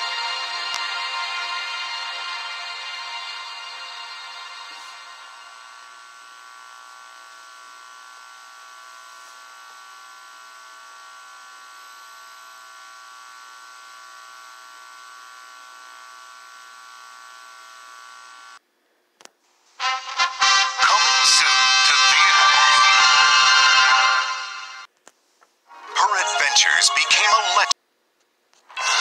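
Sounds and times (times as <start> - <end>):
electrical hum with hiss: 0.0 - 29.0.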